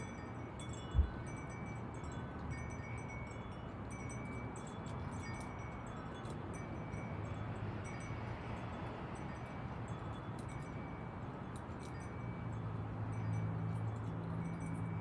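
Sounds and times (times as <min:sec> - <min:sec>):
wind chimes tinkling: 0:00.0 - 0:15.0.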